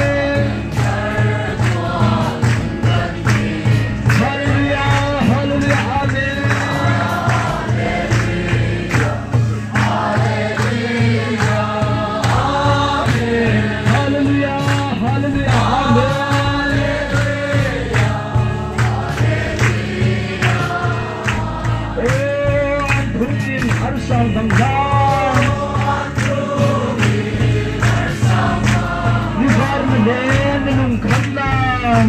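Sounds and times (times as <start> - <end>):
group singing gospel song: 0.0 - 31.4
band with pulsing bass beat: 0.0 - 32.0.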